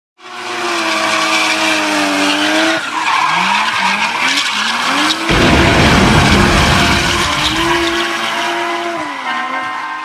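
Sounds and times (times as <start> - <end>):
car engine running and revving: 0.2 - 10.0.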